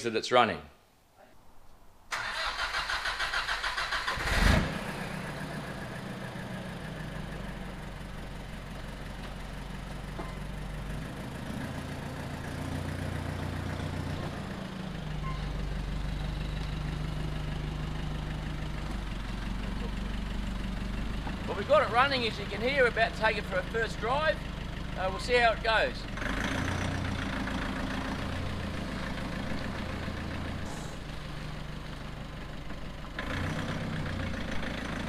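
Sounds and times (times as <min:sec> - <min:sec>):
diesel engine cranking: 0:02.1 - 0:35.0
diesel engine idling: 0:02.1 - 0:35.0.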